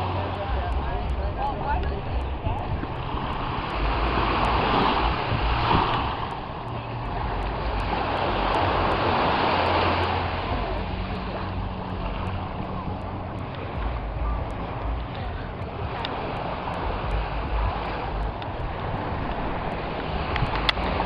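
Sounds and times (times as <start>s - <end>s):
sea water rushing: 0.0s - 21.0s
wind: 0.0s - 21.0s.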